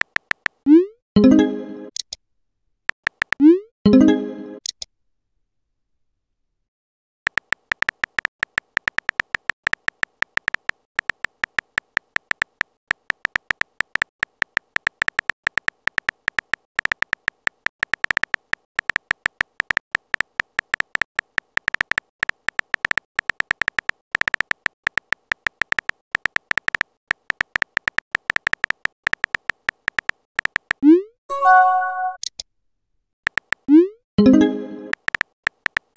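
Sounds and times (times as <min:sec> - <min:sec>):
keyboard typing clicks: 0:00.0 - 0:02.2, 0:03.0 - 0:04.8, 0:07.3 - 0:32.4, 0:33.3 - 0:35.9.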